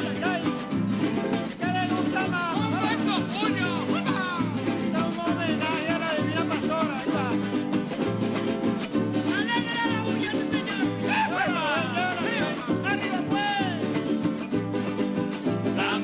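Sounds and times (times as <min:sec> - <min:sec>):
strummed small guitars: 0:00.0 - 0:16.0.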